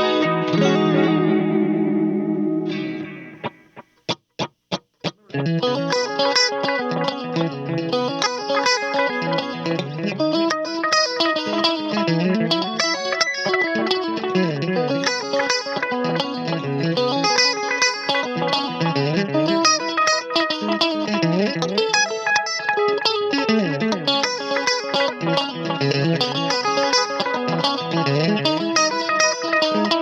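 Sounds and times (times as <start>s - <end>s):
electric guitar with delay and chorus: 0.0s - 4.2s, 5.0s - 30.0s.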